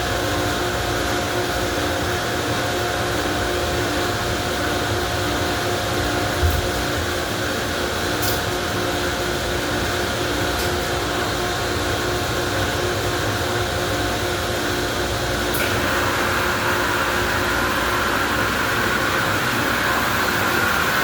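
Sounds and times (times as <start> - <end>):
car wash equipment humming: 3.7 - 21.0.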